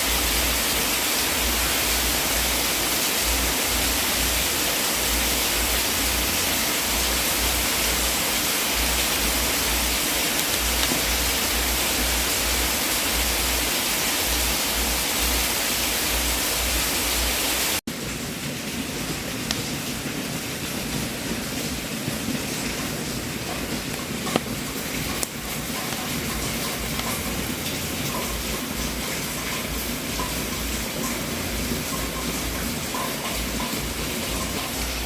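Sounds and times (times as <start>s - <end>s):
fireplace fire hissing: 0.0s - 35.0s.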